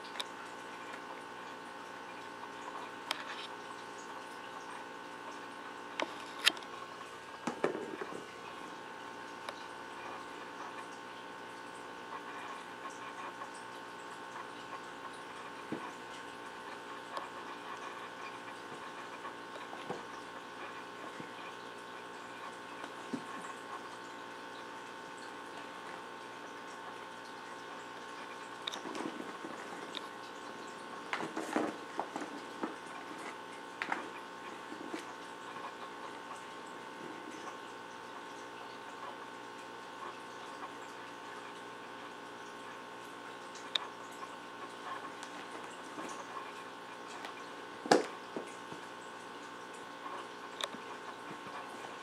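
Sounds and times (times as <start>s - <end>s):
steady tonal hum: 0.0s - 52.0s.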